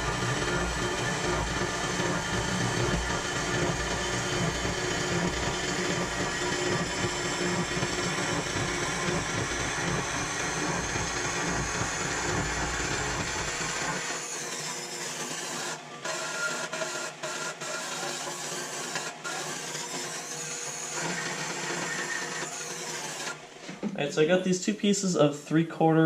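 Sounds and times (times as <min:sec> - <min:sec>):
power tool cutting steel: 0:00.0 - 0:23.6.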